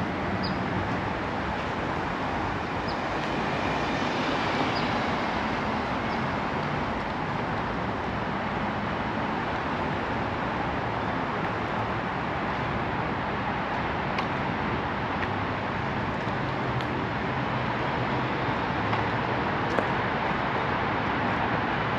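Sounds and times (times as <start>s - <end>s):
road and tyre noise: 0.0s - 21.9s.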